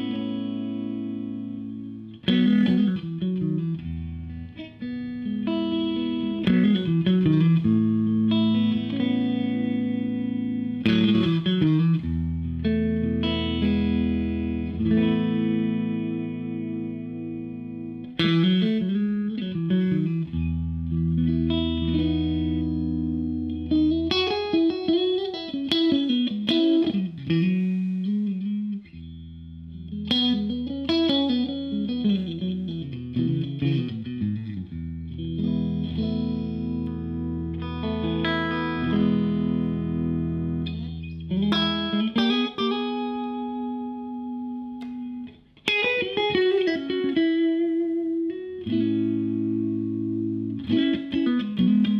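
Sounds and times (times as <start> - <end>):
electric guitar with string bends: 0.0 - 51.9.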